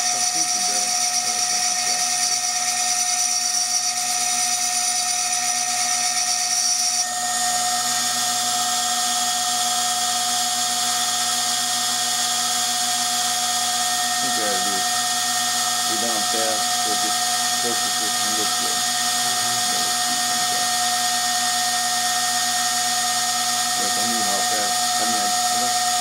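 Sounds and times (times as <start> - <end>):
milling machine spindle whining: 0.0 - 26.0.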